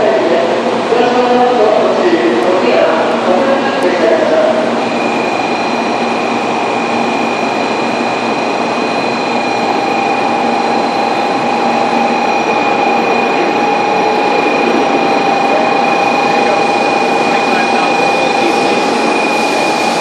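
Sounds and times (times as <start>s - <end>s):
high whine: 0.0s - 20.0s
train rushing rail noise: 0.0s - 20.0s.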